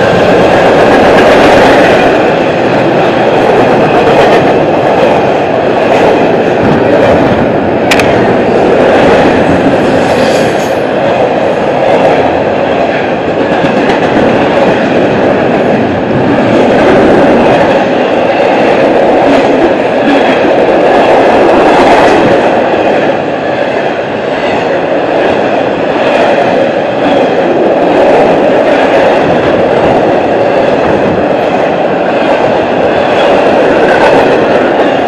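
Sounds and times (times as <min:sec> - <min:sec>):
steel train wheels on rail: 0:00.0 - 0:35.0.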